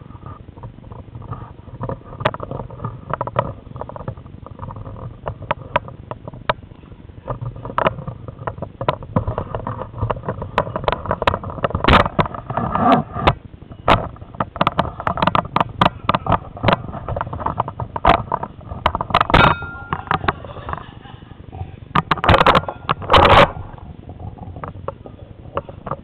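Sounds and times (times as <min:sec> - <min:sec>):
camera rattling clicks and knocks: 0:00.6 - 0:06.6, 0:07.2 - 0:20.9, 0:22.0 - 0:26.0.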